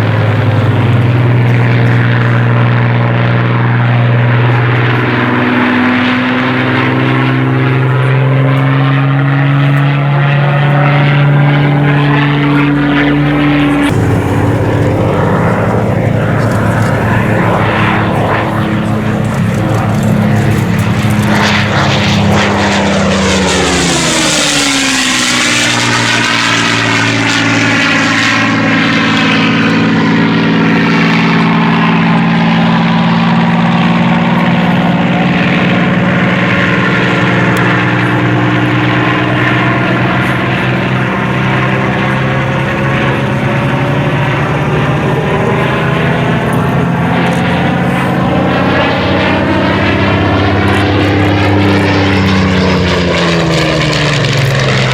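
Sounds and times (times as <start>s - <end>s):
propeller plane engine flying past: 0.0s - 54.9s.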